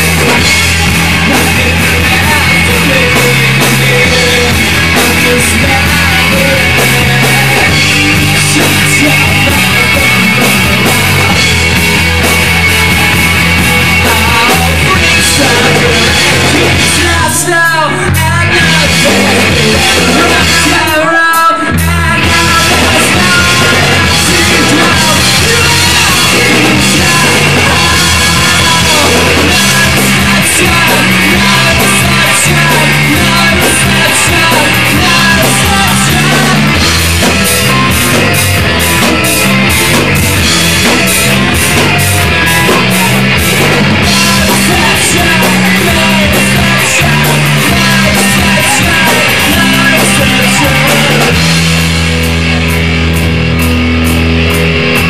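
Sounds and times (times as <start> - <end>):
bass line: 0.0 - 55.0
drum kit with cymbals: 0.0 - 55.0
electric guitar: 0.0 - 55.0.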